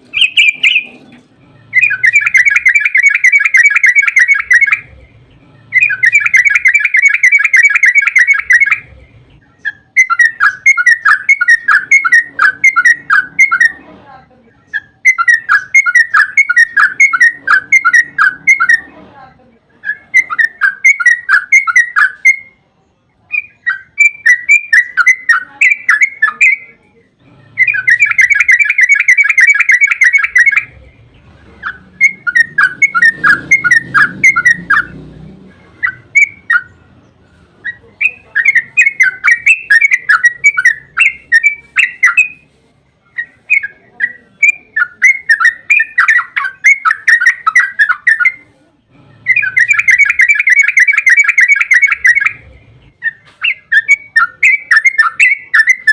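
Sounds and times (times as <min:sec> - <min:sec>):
bird singing chattering phrases: 0:00.0 - 0:55.9.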